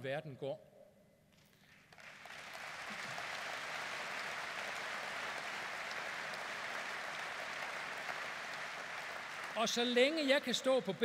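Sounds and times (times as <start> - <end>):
audience applauding: 1.9 - 10.8.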